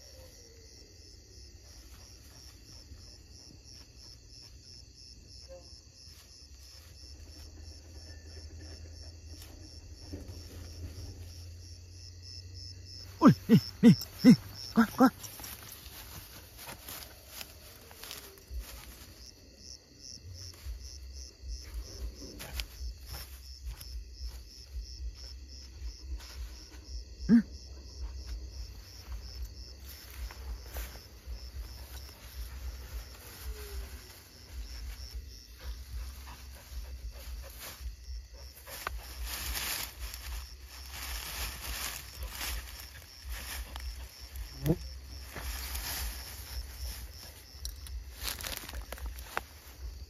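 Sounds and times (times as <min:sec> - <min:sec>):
cricket chirping: 0:00.0 - 0:50.0
rustles in grass: 0:06.0 - 0:11.6, 0:13.0 - 0:19.6, 0:20.3 - 0:26.9, 0:28.0 - 0:50.0.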